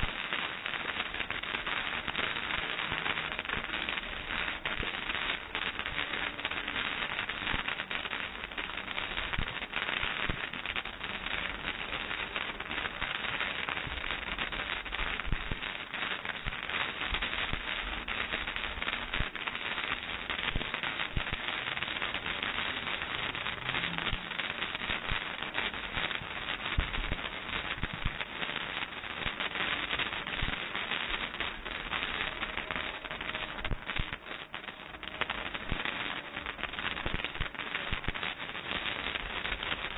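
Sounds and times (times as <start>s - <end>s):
firework fountain crackling: 0.0s - 39.9s.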